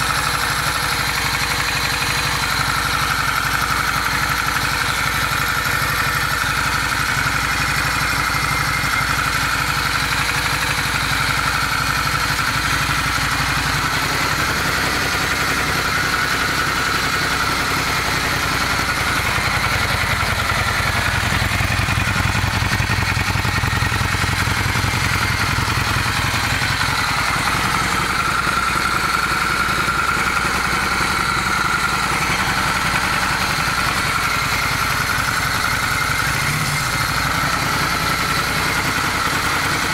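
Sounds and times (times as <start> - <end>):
engine knock: 0.0 - 39.9
motorcycle engine idling: 0.0 - 39.9.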